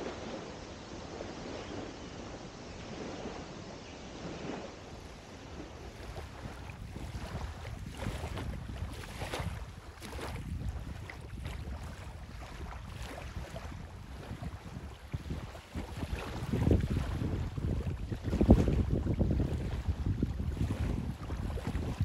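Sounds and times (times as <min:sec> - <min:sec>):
small waves lapping on shore: 0:00.0 - 0:22.0
wind buffeting microphone: 0:00.0 - 0:22.0.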